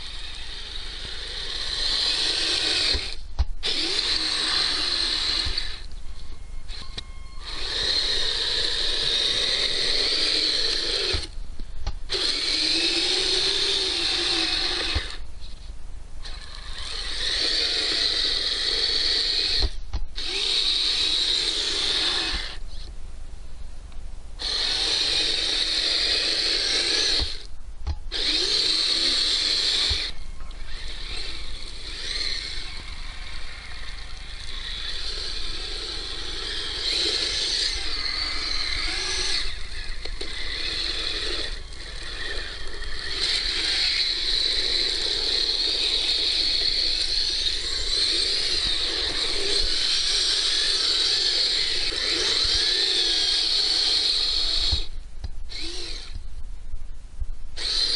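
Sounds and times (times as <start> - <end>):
electric motor whining: 0.0 - 11.4, 12.1 - 15.3, 16.2 - 22.9, 24.4 - 27.5, 28.1 - 56.3, 57.6 - 57.9.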